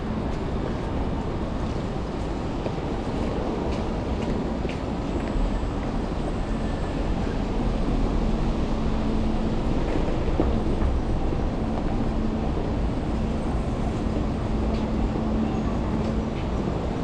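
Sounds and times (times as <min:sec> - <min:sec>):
constant low hum: 0:00.0 - 0:17.0
vehicle rumble: 0:00.0 - 0:17.0.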